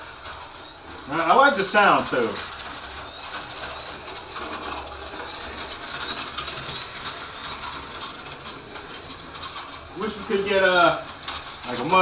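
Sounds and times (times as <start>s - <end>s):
slot car electric motor whining: 0.0s - 12.0s.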